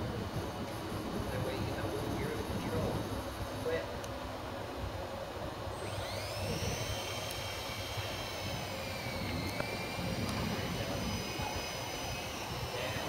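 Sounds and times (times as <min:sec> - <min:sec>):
rc helicopter rotors whining: 0:00.0 - 0:13.0.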